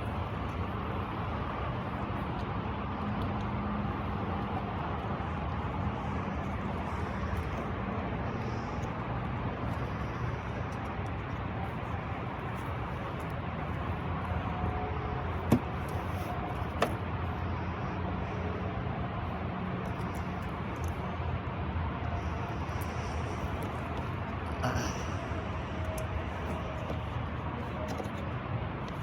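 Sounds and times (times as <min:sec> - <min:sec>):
low vehicle rumble with hum: 0:00.0 - 0:29.0.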